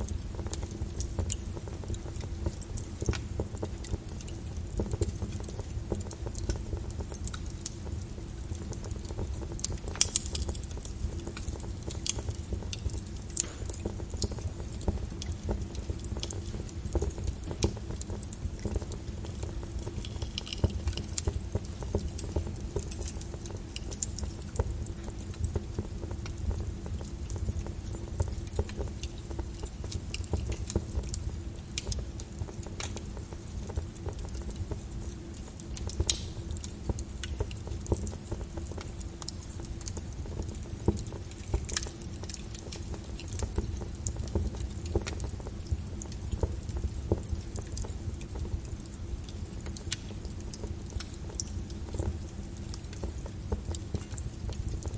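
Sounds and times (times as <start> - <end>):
low steady rumble: 0.0 - 54.9
wood fire crackling and popping: 0.0 - 54.9.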